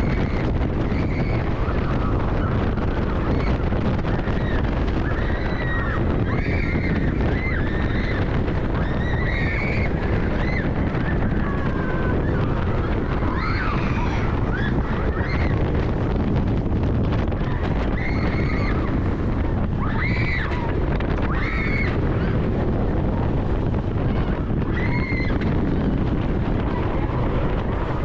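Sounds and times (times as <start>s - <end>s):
riders screaming: 0.0s - 16.1s, 17.3s - 28.0s
wind rushing over camera: 0.0s - 28.0s.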